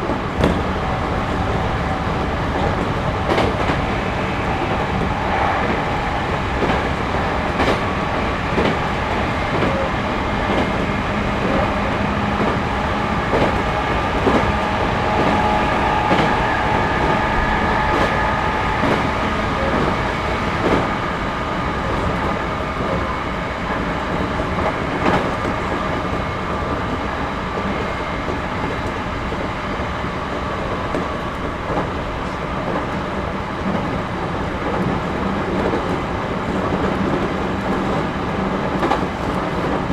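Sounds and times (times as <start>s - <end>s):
train rumble and hum: 0.0s - 39.9s.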